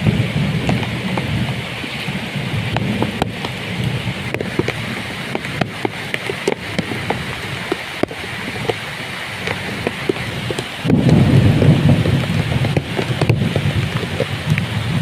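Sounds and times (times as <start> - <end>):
heavy rain: 0.0 - 15.0
raindrops ticking close by: 0.0 - 15.0.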